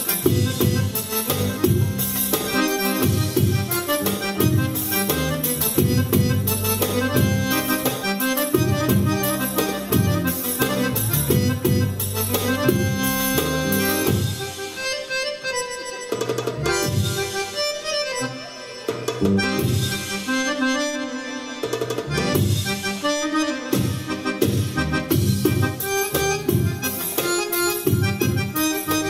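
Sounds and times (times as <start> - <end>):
keyboard dance music: 0.0 - 29.0.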